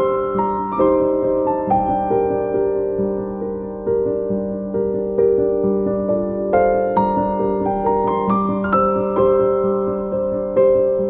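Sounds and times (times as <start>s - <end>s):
soft piano melody: 0.0s - 11.0s.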